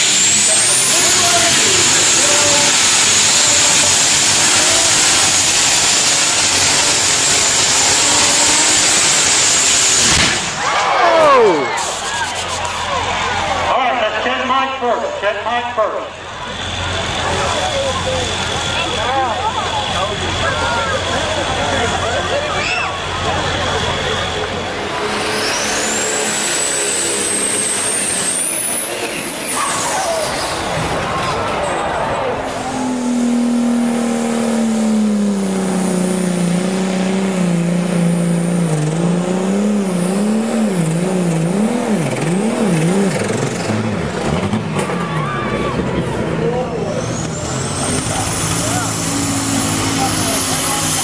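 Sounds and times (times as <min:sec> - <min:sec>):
tractor engine running flat out: 0:00.0 - 0:15.2, 0:15.8 - 0:51.0
high whine: 0:00.0 - 0:51.0.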